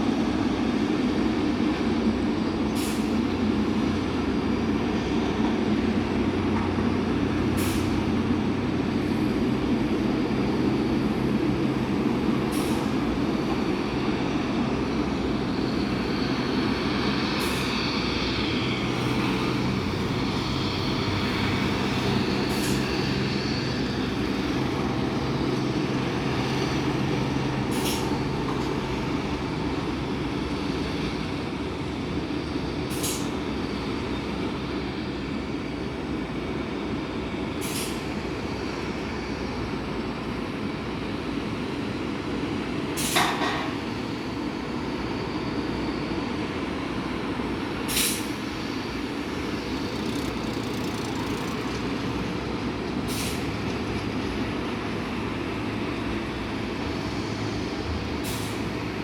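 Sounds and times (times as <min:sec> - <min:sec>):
jet engines rumbling: 0:00.0 - 0:59.0
high turbine whine: 0:08.6 - 0:59.0.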